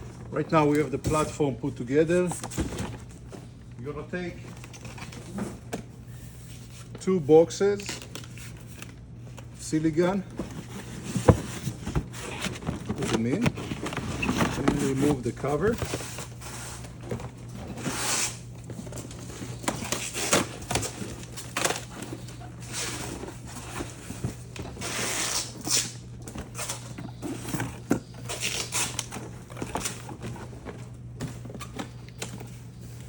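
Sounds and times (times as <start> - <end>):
cardboard rustling and scraping: 0.0 - 3.6, 8.0 - 33.0
steady low hum: 0.0 - 33.0.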